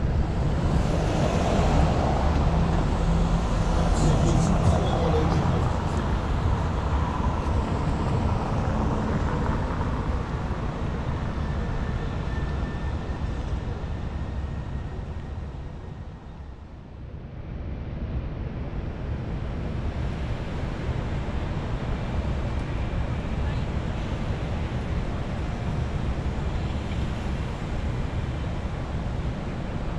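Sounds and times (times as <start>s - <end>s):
road traffic: 0.0s - 29.9s.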